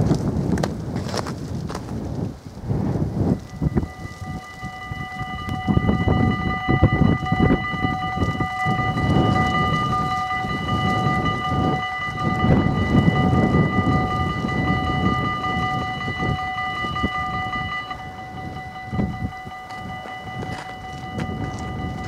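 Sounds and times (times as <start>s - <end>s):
level crossing warning bells ringing: 3.2s - 22.0s.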